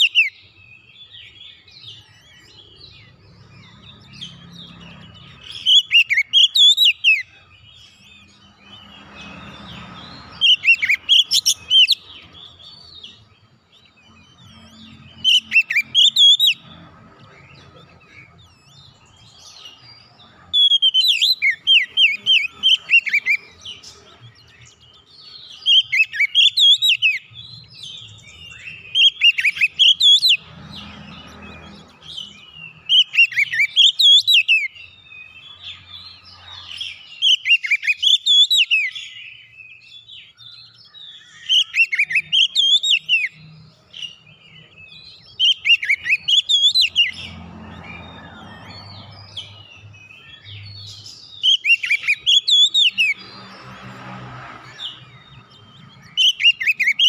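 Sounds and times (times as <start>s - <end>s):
bird singing whistled notes: 0.0s - 53.6s, 54.7s - 57.0s.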